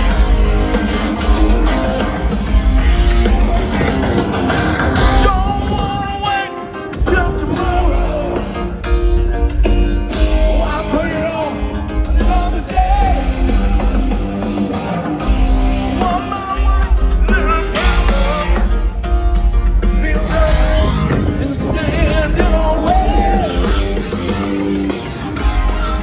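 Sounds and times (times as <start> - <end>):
rock band playing: 0.0 - 26.0
singer's lead vocal: 0.0 - 26.0.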